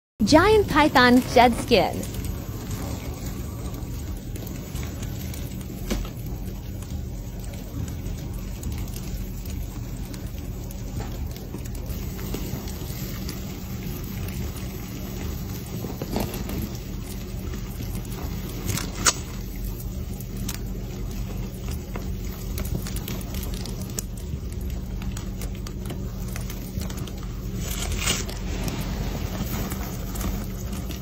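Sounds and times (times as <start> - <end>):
shed skin crackling and scraping: 2.0 - 31.0.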